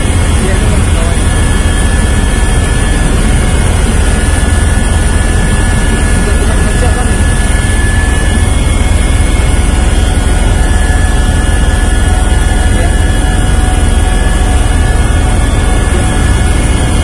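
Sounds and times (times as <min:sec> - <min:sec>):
helicopter rotor and engine drone: 0:00.0 - 0:17.0
high-pitched whines: 0:00.0 - 0:17.0.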